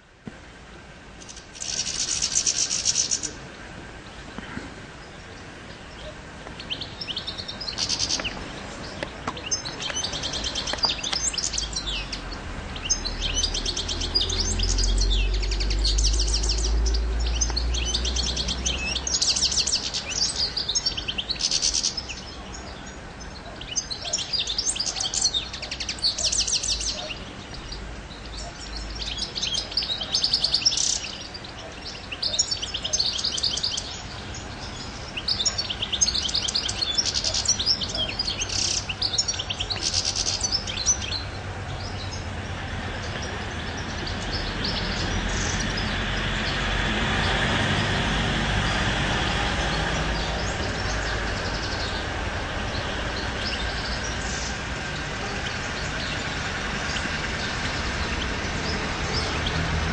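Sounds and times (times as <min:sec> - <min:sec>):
goldfinch twittering song: 0:01.2 - 0:03.4, 0:05.0 - 0:42.4, 0:49.6 - 0:59.8.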